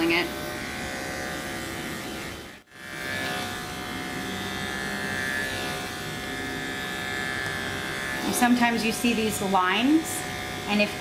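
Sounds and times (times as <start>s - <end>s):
electric clippers humming: 0.0s - 11.0s.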